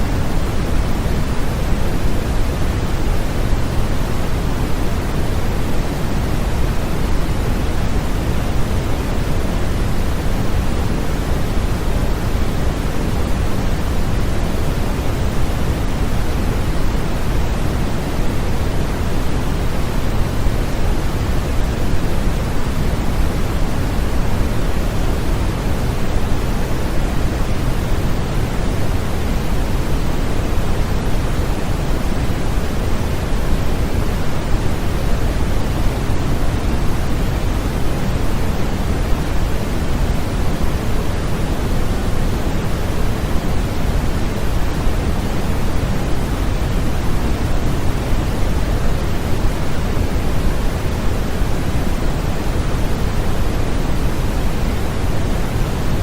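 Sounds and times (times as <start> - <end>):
pink noise: 0.0 - 56.0.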